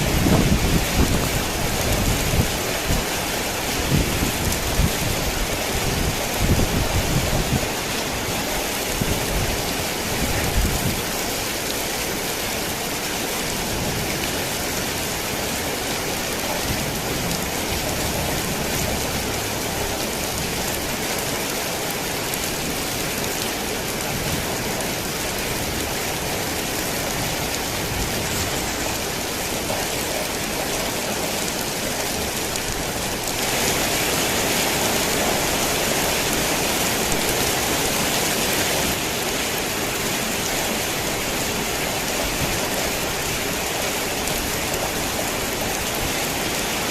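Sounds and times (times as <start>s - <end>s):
heavy rain on a tin roof: 0.0s - 46.9s.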